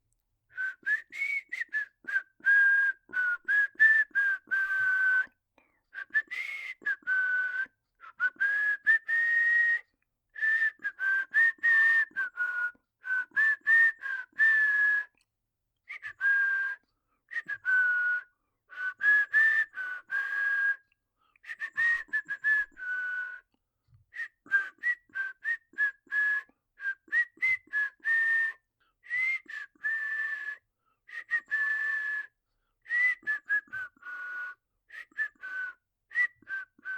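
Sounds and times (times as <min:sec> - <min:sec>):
man whistling a tune: 0:00.5 - 0:15.3, 0:15.9 - 0:36.9.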